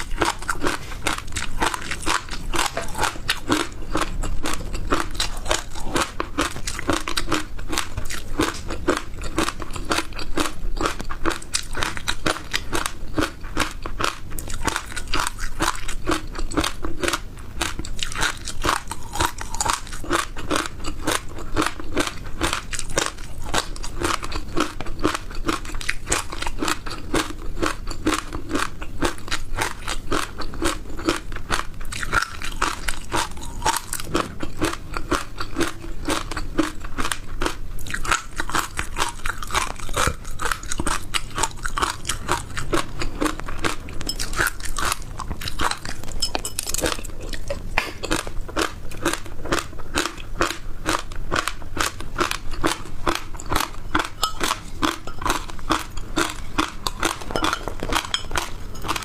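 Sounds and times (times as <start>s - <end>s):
chewing crunchy seeds: 0.0s - 59.0s.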